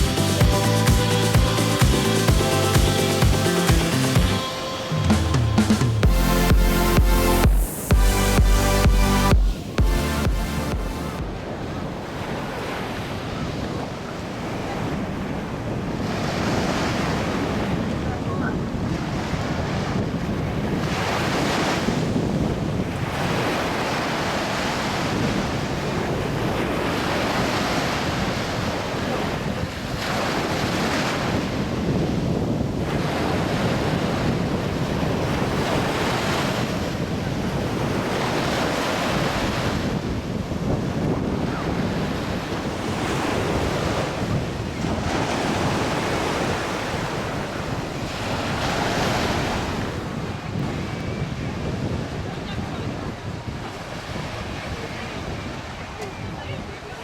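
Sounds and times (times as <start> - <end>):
sea waves washing in: 0.0 - 57.0
wind noise on microphone: 0.0 - 57.0.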